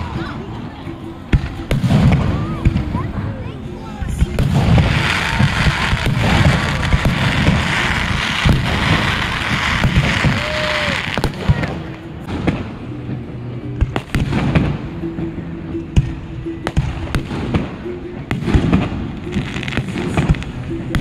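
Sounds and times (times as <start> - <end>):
fireworks crackling: 0.0 - 21.0
fireworks bangs and pops: 1.3 - 3.1, 4.0 - 13.0, 13.8 - 14.9, 16.0 - 21.0.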